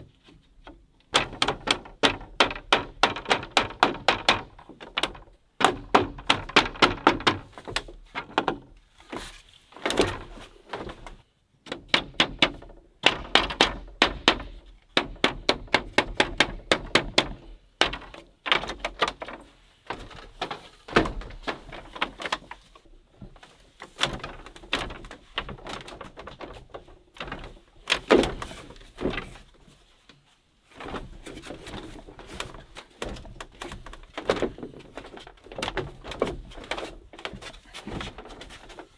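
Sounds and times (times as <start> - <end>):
hollow wooden knocks: 0.0 - 29.9, 30.8 - 38.9.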